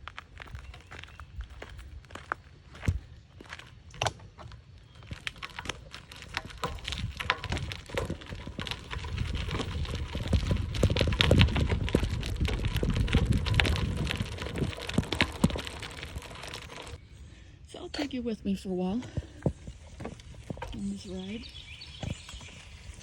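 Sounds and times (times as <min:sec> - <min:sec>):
bicycle tyres crunching on trail: 0:00.0 - 0:17.0, 0:19.1 - 0:23.0.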